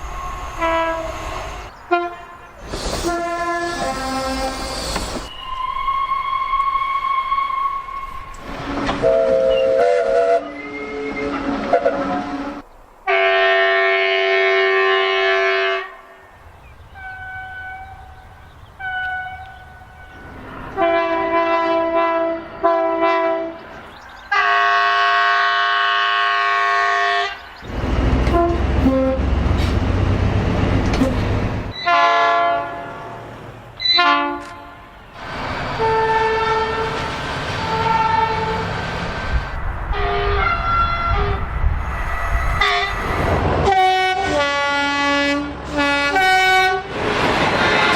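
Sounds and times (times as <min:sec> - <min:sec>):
train rumbling past: 0:00.0 - 0:47.9
train horn blasts: 0:00.1 - 0:18.2, 0:18.8 - 0:23.6, 0:24.3 - 0:27.4, 0:28.2 - 0:29.8, 0:31.0 - 0:33.2, 0:33.8 - 0:35.0, 0:35.8 - 0:38.7, 0:39.9 - 0:46.9.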